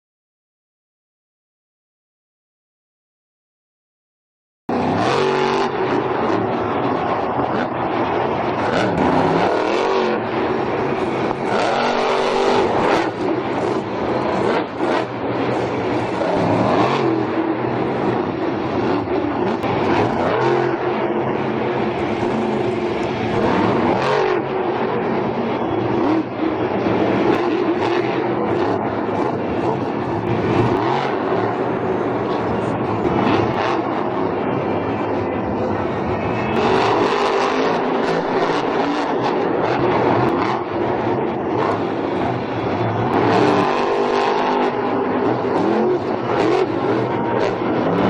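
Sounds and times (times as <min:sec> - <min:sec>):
monster truck engine revving: 0:04.7 - 0:48.0.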